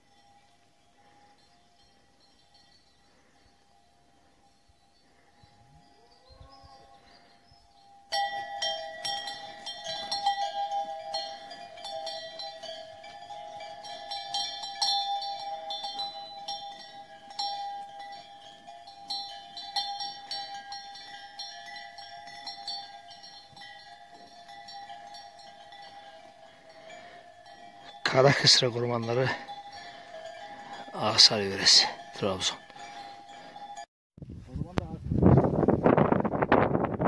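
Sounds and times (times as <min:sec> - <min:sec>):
cowbells clanking: 0:00.0 - 0:33.9.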